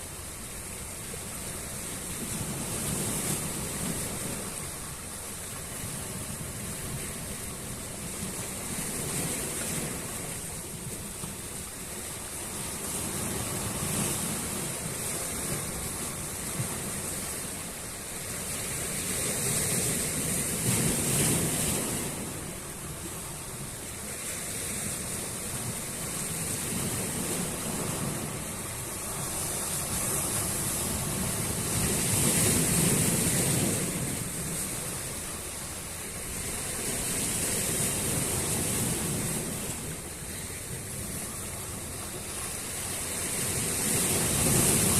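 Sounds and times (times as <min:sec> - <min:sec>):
sea waves breaking on shore: 0:00.0 - 0:44.9.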